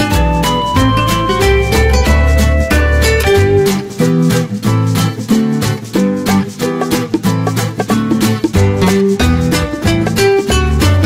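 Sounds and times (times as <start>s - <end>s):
strummed string instrument music: 0.0s - 11.0s.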